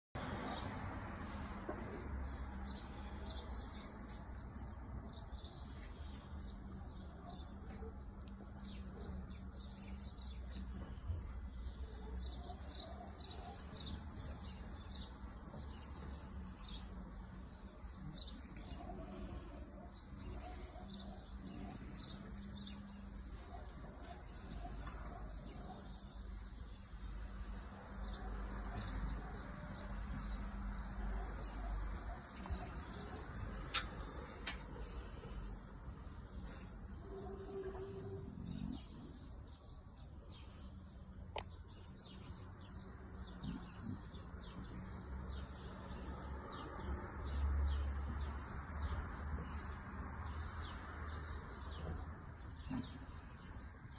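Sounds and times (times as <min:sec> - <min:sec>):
faint birds chirping: 0:00.1 - 0:53.9.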